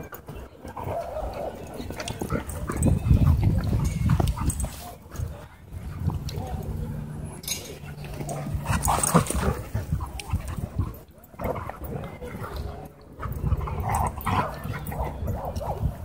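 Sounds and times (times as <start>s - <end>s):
dogs barking and whining: 0.6s - 16.0s.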